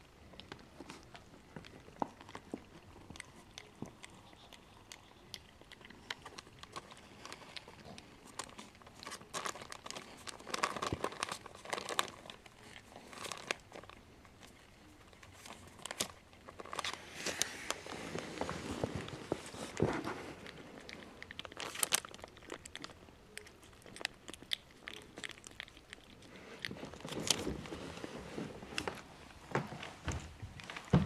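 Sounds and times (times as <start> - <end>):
puppies crunching dry kibble: 0.0 - 31.0.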